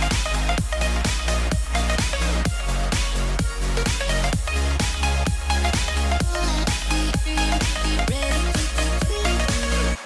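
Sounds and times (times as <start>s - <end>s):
kick drum beat: 0.0s - 9.8s
deep bass: 0.0s - 10.0s
electronic dance music: 0.0s - 10.0s.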